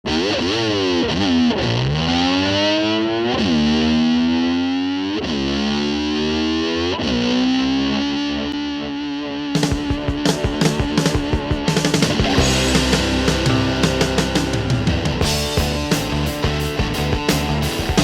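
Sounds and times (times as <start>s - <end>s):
distorted electric guitar: 0.0s - 18.0s.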